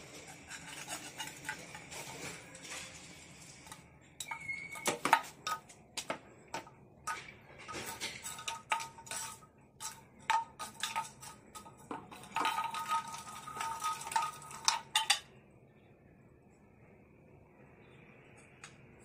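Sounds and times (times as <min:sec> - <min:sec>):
hard objects clattering and clinking: 0:00.0 - 0:15.4.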